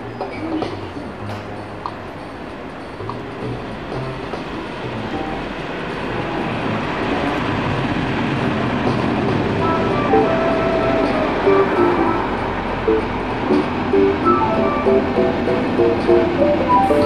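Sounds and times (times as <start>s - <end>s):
locomotive engine running: 0.0s - 17.0s
train wheels on rails: 0.0s - 17.0s.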